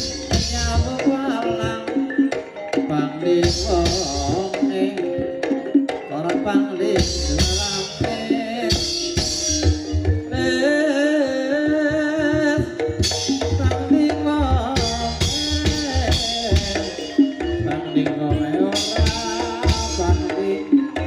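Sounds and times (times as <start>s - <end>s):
hand drums beating: 0.0s - 10.9s, 11.6s - 21.0s
gamelan melody: 0.0s - 21.0s.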